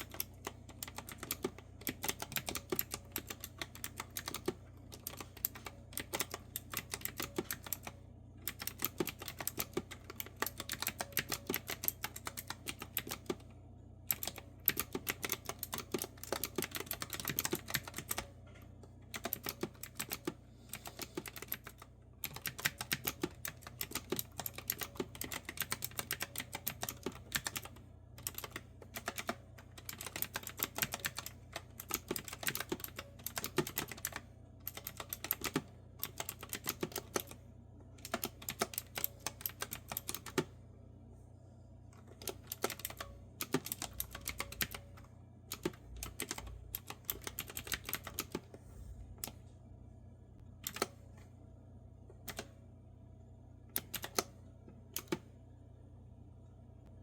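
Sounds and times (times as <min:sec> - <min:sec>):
clicky keyboard typing: 0:00.0 - 0:13.5, 0:14.1 - 0:18.3, 0:19.1 - 0:37.4, 0:38.0 - 0:40.5, 0:42.0 - 0:48.6, 0:50.6 - 0:51.0, 0:52.3 - 0:52.5, 0:53.7 - 0:54.4, 0:55.0 - 0:55.3.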